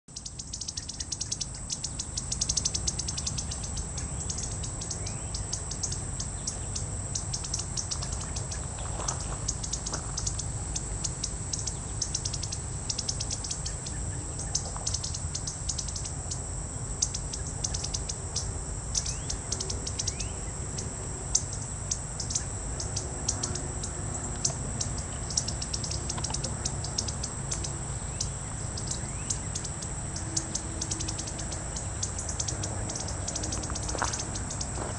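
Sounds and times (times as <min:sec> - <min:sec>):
birds singing chirping phrases: 0:00.1 - 0:34.9
pulsing insect trill: 0:00.1 - 0:34.9.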